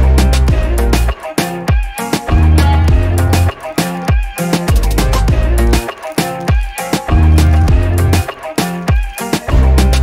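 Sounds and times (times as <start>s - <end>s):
music with deep bass and beat: 0.0s - 10.0s.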